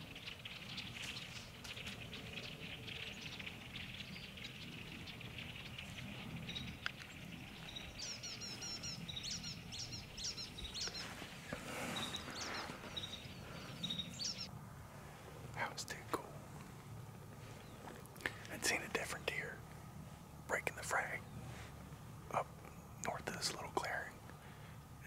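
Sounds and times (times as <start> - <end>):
small birds chirping: 0.0 - 14.6, 15.2 - 25.0
faint outdoor background: 0.0 - 25.0.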